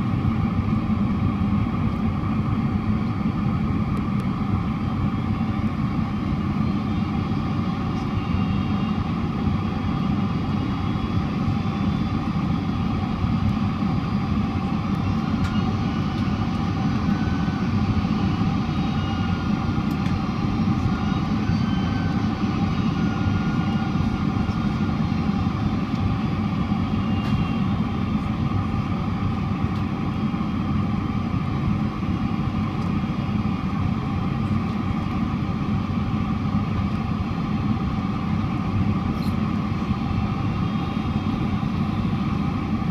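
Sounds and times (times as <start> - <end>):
faint steady whining tones: 0.0 - 42.9
jet engine drone: 0.0 - 42.9.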